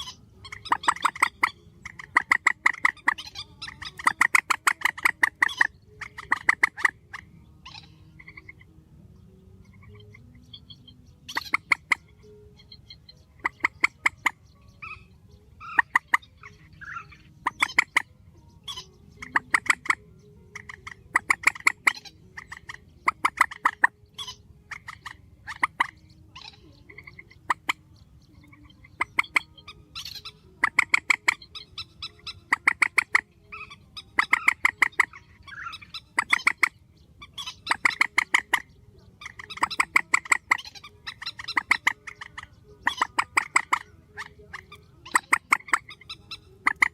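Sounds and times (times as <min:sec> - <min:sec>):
swamphen harsh cackling calls: 0:00.0 - 0:08.7, 0:09.7 - 0:46.9.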